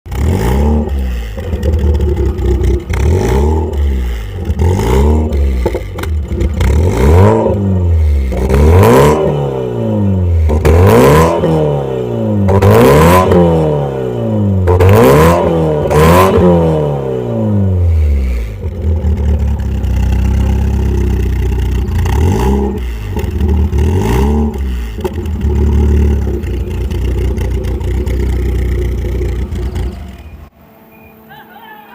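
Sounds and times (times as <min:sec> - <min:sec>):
car engine revving: 0:00.1 - 0:30.5.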